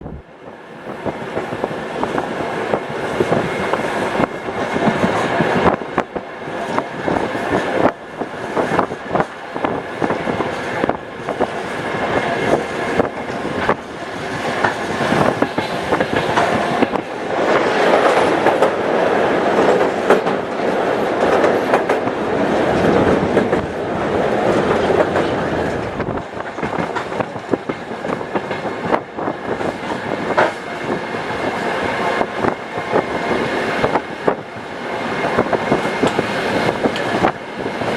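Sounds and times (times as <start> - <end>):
train rumble: 0.0 - 37.9
train wheels clicking over rail joints: 0.8 - 37.9.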